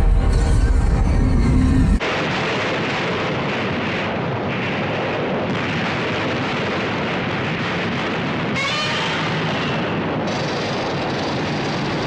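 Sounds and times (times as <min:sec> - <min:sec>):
tank gunfire and explosions: 0:00.0 - 0:12.0.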